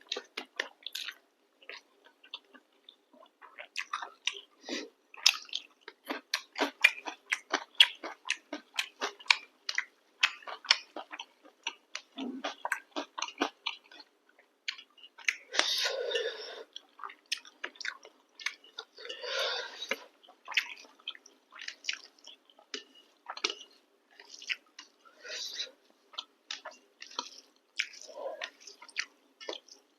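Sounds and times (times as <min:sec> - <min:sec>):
close chewing with mouth smacks: 0:00.0 - 0:15.9, 0:16.6 - 0:29.9.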